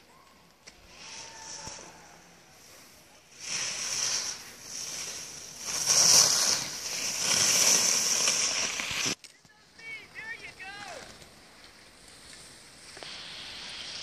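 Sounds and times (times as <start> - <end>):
skis scraping and hissing on snow: 0.7 - 14.0.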